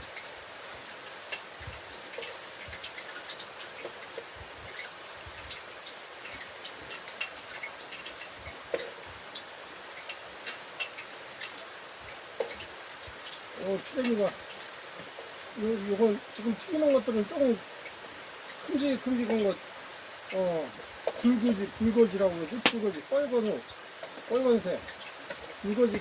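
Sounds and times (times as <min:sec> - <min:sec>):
fish sizzling in hot oil: 0:00.0 - 0:26.0
high-pitched insect trill: 0:00.0 - 0:26.0.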